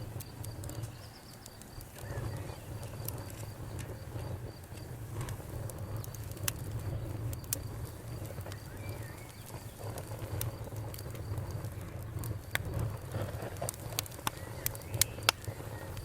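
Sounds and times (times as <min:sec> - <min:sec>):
crickets chirping: 0:00.0 - 0:16.0
wood fire crackling and popping: 0:00.0 - 0:16.0.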